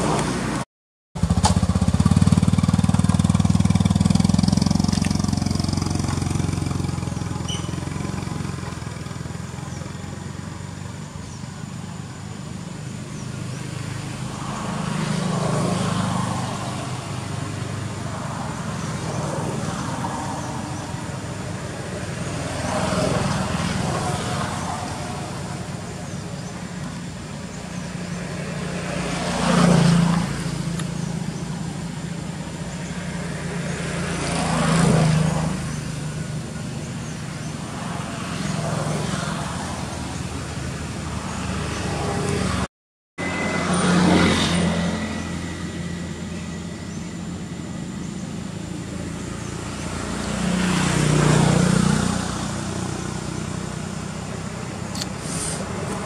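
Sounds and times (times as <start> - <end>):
low traffic rumble: 0.0 - 0.6, 1.2 - 56.0
vehicles passing: 0.0 - 56.0.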